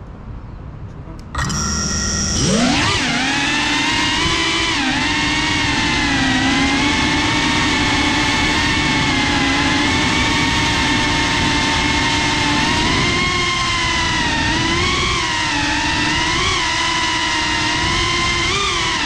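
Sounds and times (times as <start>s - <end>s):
drone motors whining: 1.1s - 19.0s
propeller wash rushing: 1.4s - 19.0s.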